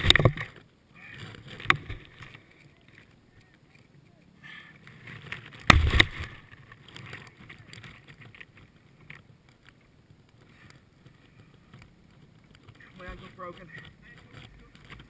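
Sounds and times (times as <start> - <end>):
grass rustling against camera: 0.0 - 15.0.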